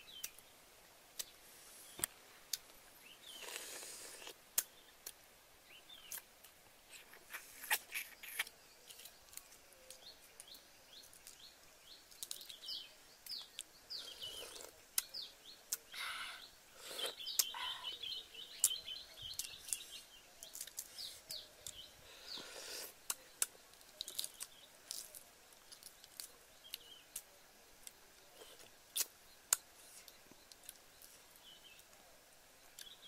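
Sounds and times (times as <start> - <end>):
wild birds chirping: 0.0 - 33.0.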